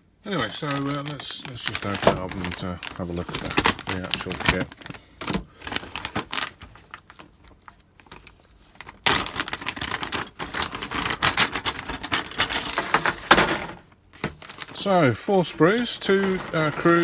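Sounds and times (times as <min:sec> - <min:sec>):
plastic bag crinkling: 0:00.2 - 0:13.2, 0:14.2 - 0:17.0.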